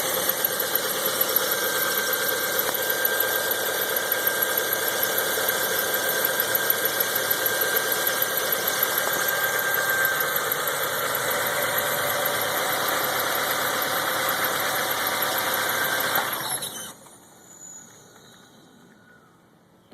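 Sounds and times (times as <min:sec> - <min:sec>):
car engine running: 0:00.0 - 0:16.6
high steady whirring: 0:00.0 - 0:17.1.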